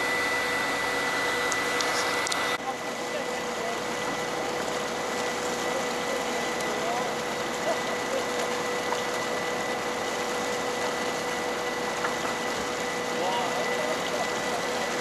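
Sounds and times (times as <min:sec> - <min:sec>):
boat engine running: 0:00.0 - 0:15.0
constant whine: 0:00.0 - 0:15.0.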